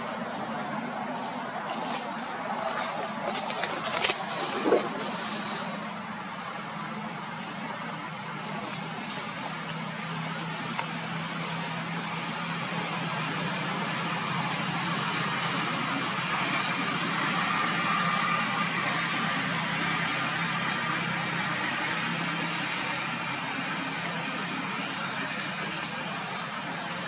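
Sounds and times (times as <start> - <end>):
road traffic noise: 0.0 - 27.0
vehicle engine running: 0.0 - 27.0.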